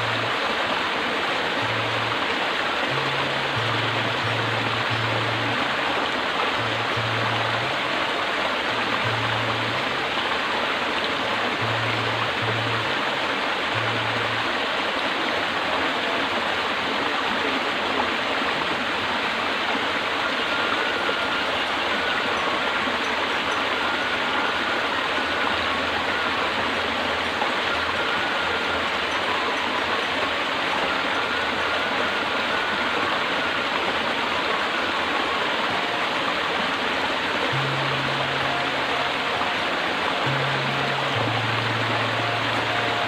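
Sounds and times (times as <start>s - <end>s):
flowing stream water: 0.0s - 43.0s
low background music: 0.0s - 43.0s.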